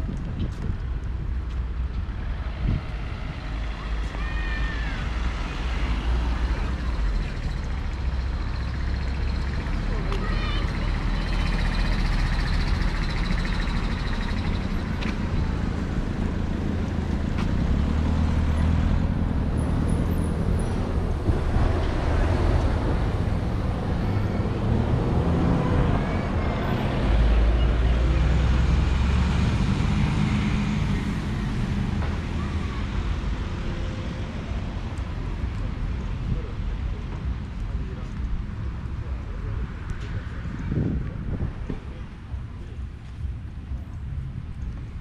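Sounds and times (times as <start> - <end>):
cars and buses on road: 0.0 - 45.0.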